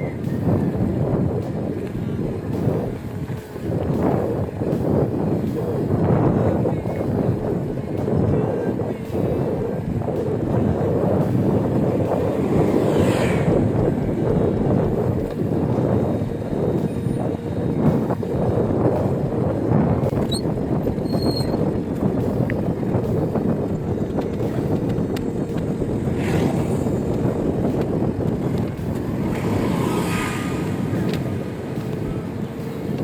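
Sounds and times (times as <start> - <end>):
wind over microphone: 0.0 - 33.0.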